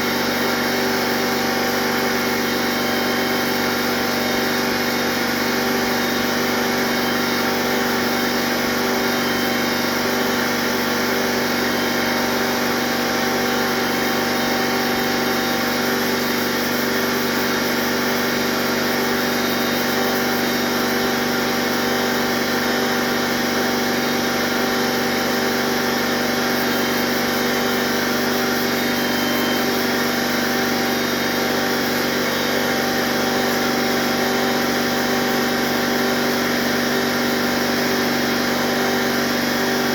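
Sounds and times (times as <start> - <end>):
motor humming steadily: 0.0 - 39.9.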